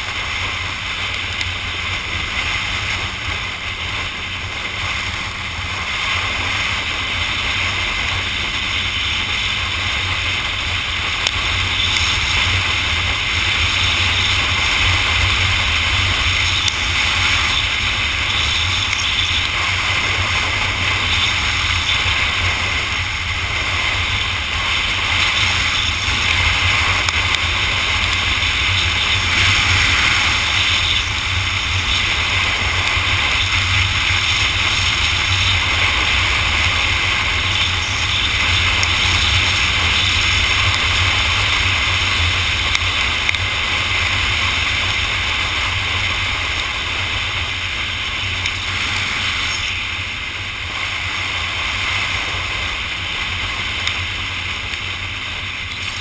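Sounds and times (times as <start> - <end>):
motorcycle engine: 0.0 - 56.0
wind rush over microphone: 0.0 - 56.0.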